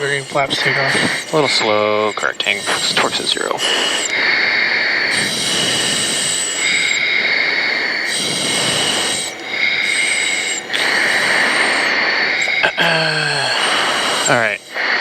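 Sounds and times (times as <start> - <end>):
cockpit engine rush: 0.0 - 15.0
high-pitched whining tones: 0.0 - 15.0.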